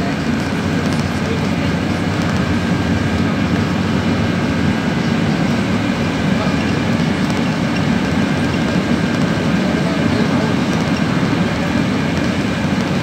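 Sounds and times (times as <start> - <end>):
bus engine droning: 0.0 - 13.0
road noise: 0.0 - 13.0.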